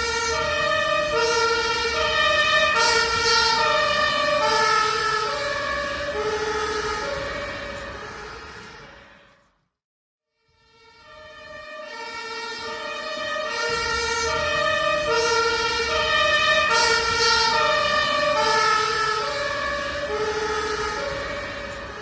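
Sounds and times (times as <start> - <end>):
two-tone ambulance siren: 0.0 - 9.6, 10.3 - 22.0
vehicle rumble: 0.0 - 9.6, 11.4 - 22.0.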